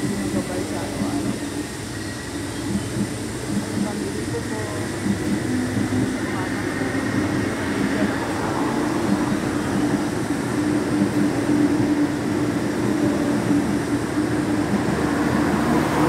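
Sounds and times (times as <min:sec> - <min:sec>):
mechanical rumble with low hum: 0:00.0 - 0:16.0.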